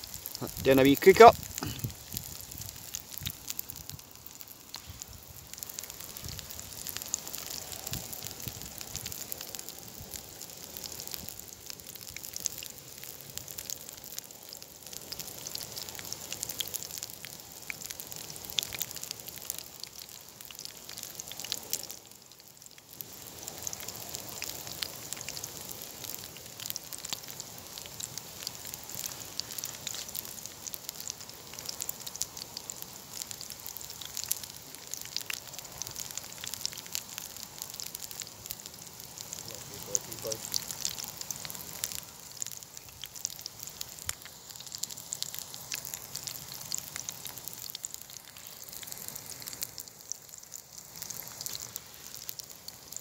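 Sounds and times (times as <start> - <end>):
crackles and pops: 0.0 - 53.0
sausage meat sizzling in pan: 0.0 - 53.0.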